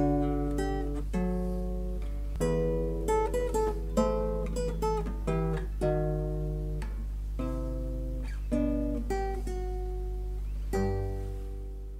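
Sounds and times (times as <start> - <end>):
acoustic guitar picking: 0.0 - 11.9.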